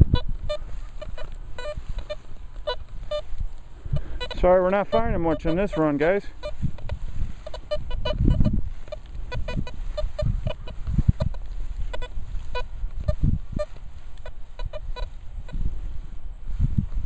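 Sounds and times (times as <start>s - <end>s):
metal detector low beeps: 0.0s - 15.7s.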